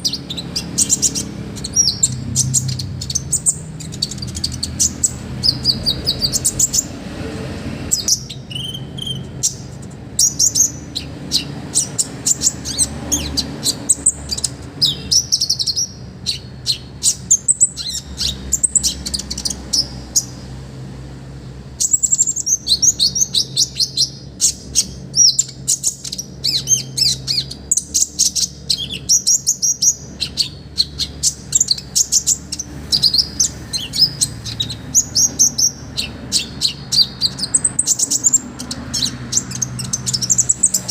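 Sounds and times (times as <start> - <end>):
bird singing chips and trills: 0.0 - 7.0, 7.9 - 20.4, 21.8 - 40.9.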